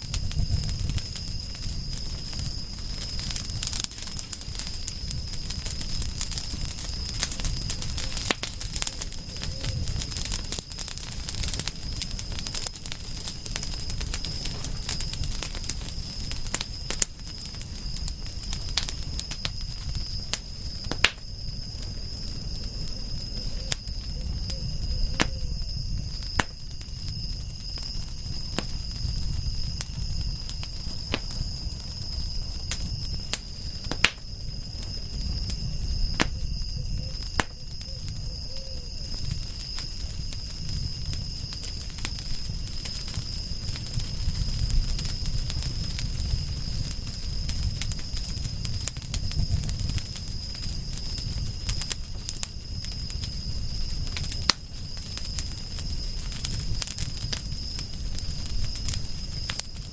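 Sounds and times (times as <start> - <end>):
campfire crackling and popping: 0.0 - 59.9
low rumble of flames: 0.0 - 59.9.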